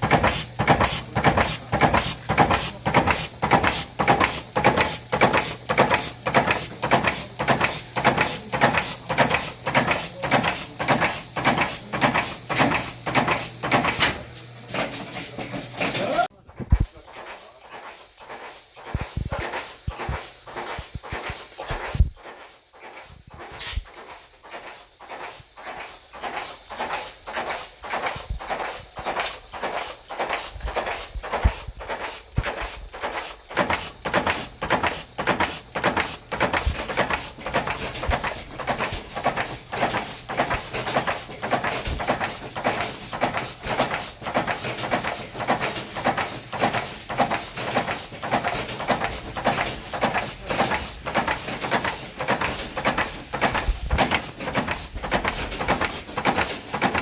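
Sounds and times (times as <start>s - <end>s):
press machine knocking strokes: 0.0s - 57.0s.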